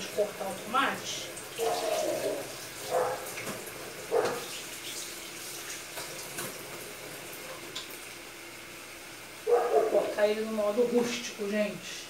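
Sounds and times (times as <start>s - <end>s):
water running from tap: 0.0s - 11.9s.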